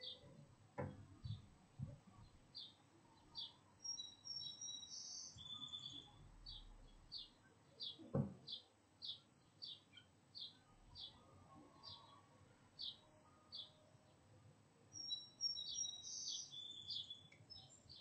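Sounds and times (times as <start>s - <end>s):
bird chirping: 0.0s - 0.4s, 2.2s - 14.2s, 14.9s - 18.0s.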